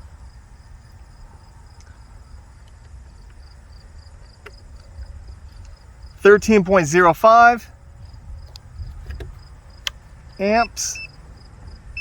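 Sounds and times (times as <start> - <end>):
crickets chirping: 0.0 - 12.0
low steady rumble: 0.0 - 12.0.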